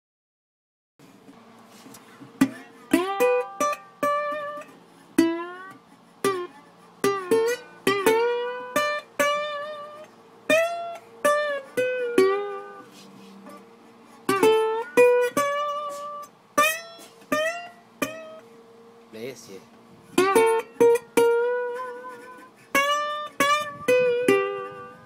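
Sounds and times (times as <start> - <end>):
solo blues guitar: 1.7 - 18.6, 20.0 - 25.0.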